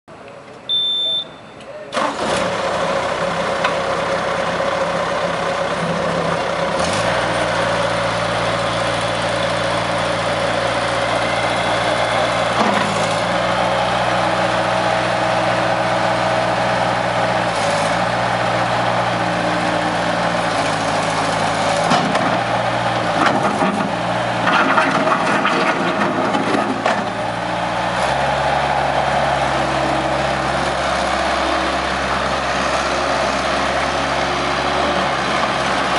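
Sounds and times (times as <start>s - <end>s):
skid steer loader engine running: 0.7s - 35.9s.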